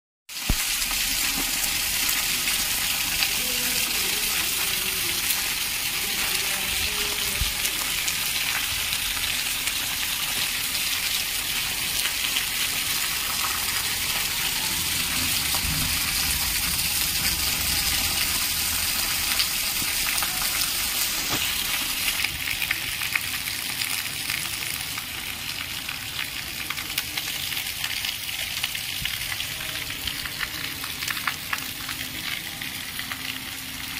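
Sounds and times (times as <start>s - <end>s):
heavy rain on pavement and roofs: 0.3s - 33.9s
roof runoff splashing: 0.3s - 33.9s.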